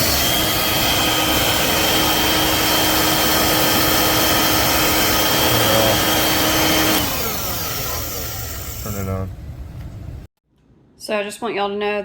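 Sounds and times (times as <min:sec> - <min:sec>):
stick vacuum whining: 0:00.0 - 0:09.9.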